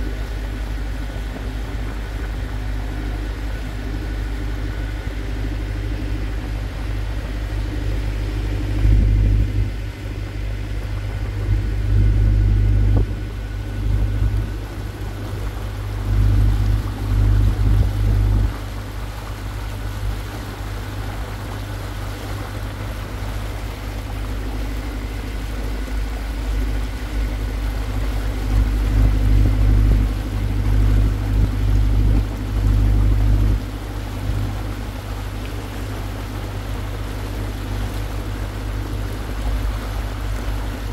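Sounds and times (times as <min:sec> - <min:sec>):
boat engine rumbling: 0:00.0 - 0:40.9.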